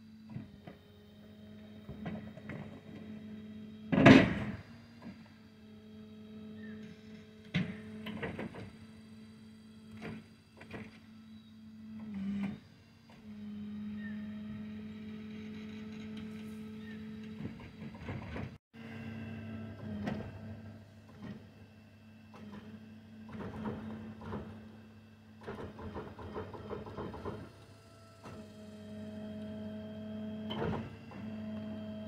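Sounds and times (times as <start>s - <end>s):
hydraulic motor drone: 0.0s - 32.0s.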